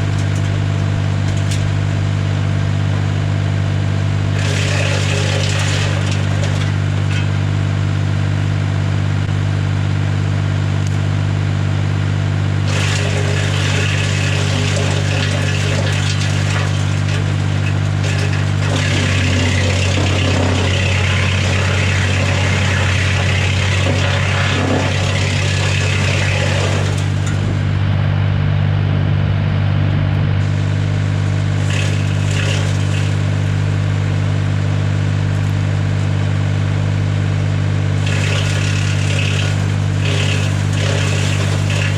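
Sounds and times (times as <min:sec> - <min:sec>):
wood chipper chipping branches: 0:00.0 - 0:28.3, 0:30.3 - 0:41.9
tractor machine hum: 0:00.0 - 0:41.9.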